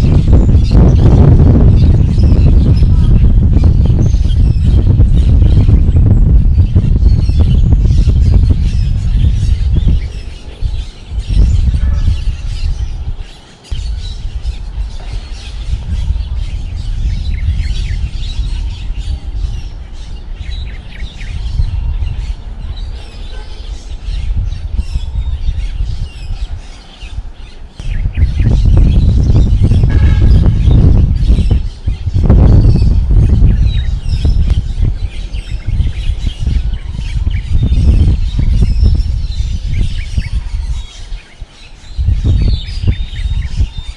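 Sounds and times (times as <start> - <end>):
birds chirping: 0.0 - 43.9
wind gusting against microphone: 0.0 - 43.9.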